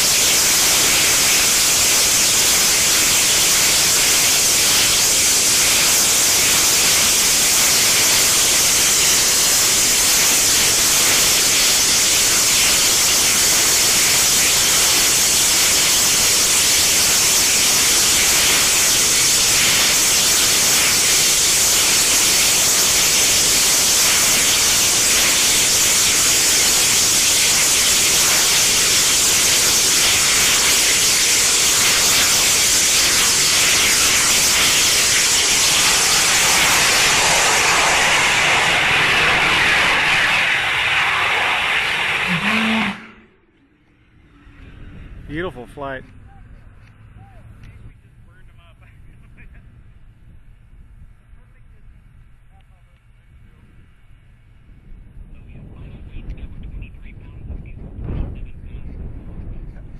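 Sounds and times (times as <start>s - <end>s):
rocket engine roaring: 0.0s - 59.9s.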